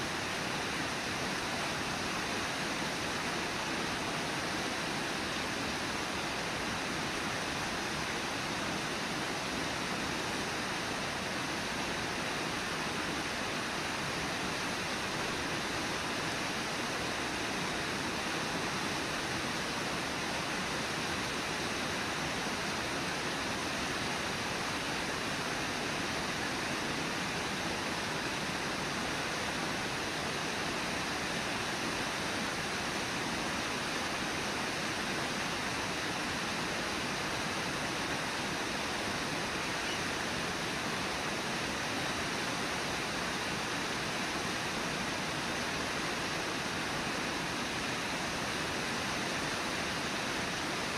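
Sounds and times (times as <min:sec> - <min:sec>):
river rushing over riffles: 0:00.0 - 0:50.9.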